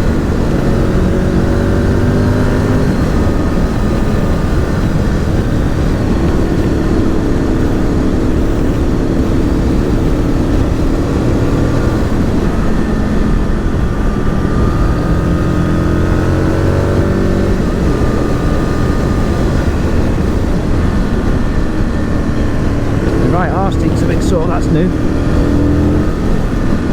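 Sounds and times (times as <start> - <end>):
motorcycle engine revving: 0.0 - 26.9
wind rumble: 0.0 - 26.9.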